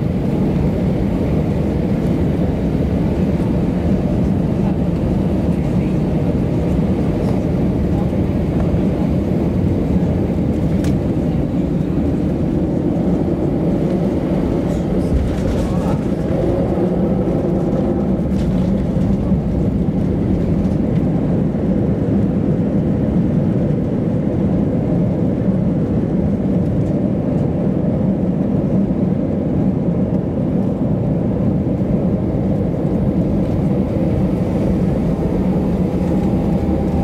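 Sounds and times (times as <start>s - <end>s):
aircraft engines and wheels rumbling: 0.0s - 37.0s.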